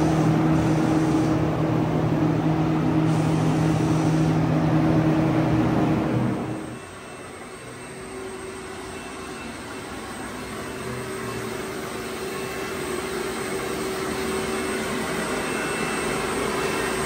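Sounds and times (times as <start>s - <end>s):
rushing mechanical noise with hum: 0.0s - 17.0s.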